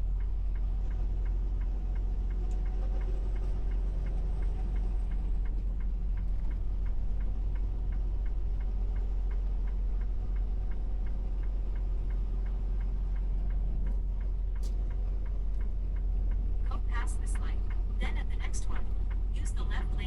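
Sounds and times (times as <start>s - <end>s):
road noise: 0.0s - 20.0s
truck engine drone: 0.0s - 20.0s
turn signal ticking: 0.0s - 20.0s.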